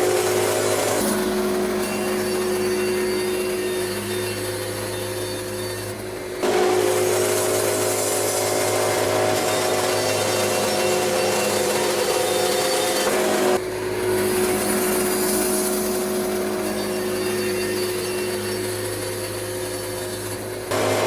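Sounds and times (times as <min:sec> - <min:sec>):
band sawmill cutting wood: 0:00.0 - 0:21.0.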